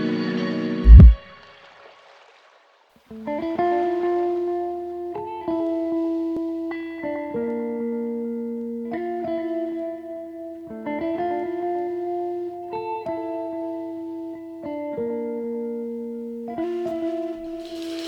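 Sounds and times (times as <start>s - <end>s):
plucked guitar melody: 3.1s - 18.0s.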